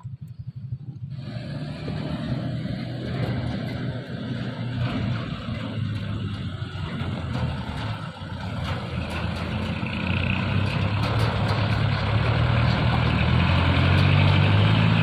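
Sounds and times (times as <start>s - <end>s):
truck diesel engine approaching: 0.0s - 15.0s.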